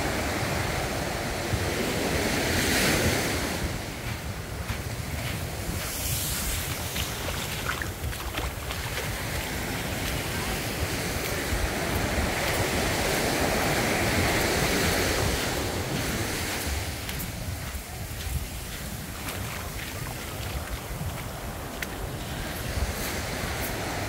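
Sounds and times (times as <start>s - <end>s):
small waves breaking on beach: 0.0s - 24.0s
wind buffeting microphone: 0.0s - 24.0s.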